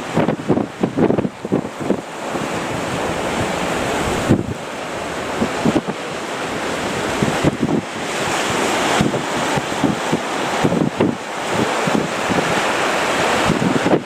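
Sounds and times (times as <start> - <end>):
low gusty thumps: 0.0 - 12.8
breaking surf: 0.0 - 14.0
wind buffeting microphone: 0.0 - 14.0.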